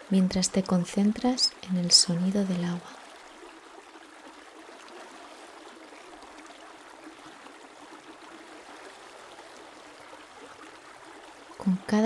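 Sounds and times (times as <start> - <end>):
water flowing over rocks: 0.0 - 12.0.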